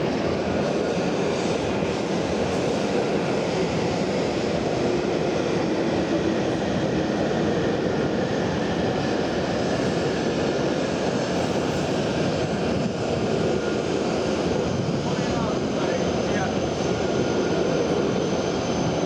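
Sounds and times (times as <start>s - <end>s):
train rushing through station: 0.0s - 19.0s.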